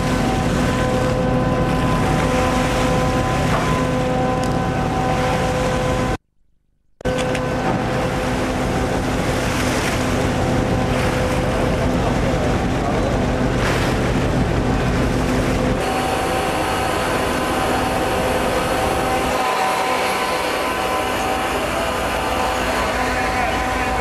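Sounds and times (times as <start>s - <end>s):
water splashing along hull: 0.0s - 6.2s, 7.0s - 24.0s
ship machinery drone: 0.0s - 6.3s, 6.9s - 24.0s.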